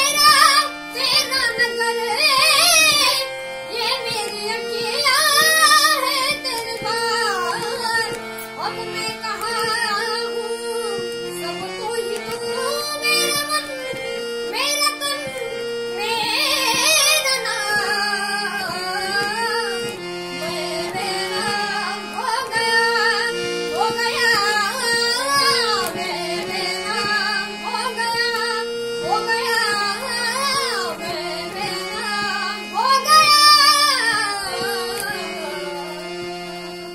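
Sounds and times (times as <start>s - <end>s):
instrumental held notes: 0.0s - 36.9s
person singing: 0.0s - 36.9s.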